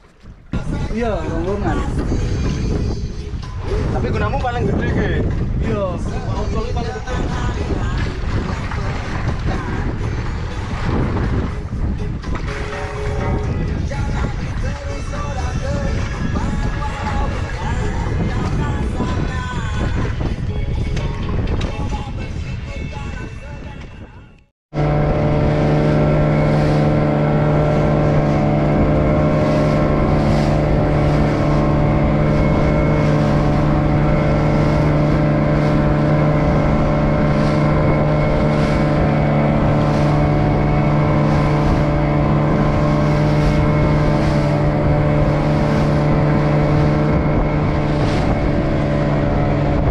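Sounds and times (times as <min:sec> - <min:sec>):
boat engine running: 0:00.0 - 0:22.1, 0:24.7 - 0:49.9.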